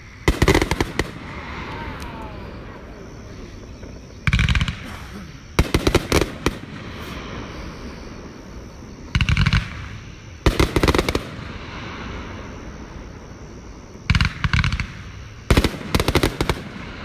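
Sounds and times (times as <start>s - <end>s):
fireworks crackling pops: 0.0s - 8.0s, 9.0s - 12.3s, 13.9s - 17.0s.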